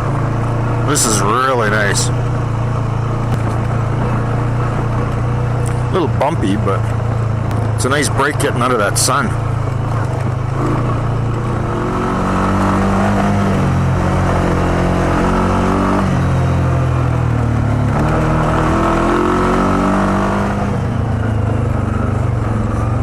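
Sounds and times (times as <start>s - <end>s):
quad engine running: 0.0s - 23.0s.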